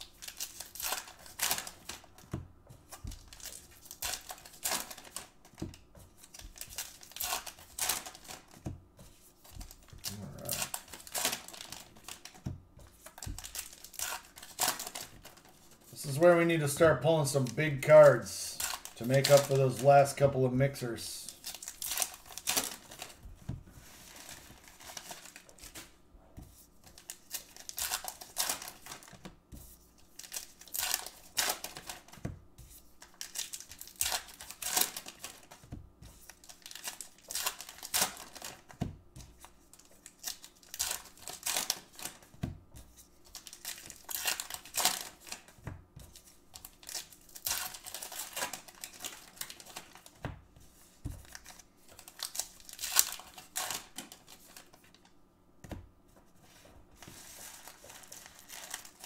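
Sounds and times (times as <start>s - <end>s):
card wrappers crinkling and tearing: 0.0s - 23.2s, 23.8s - 26.0s, 26.6s - 50.2s, 51.2s - 55.1s, 56.5s - 59.0s
cards rustling: 0.0s - 59.0s.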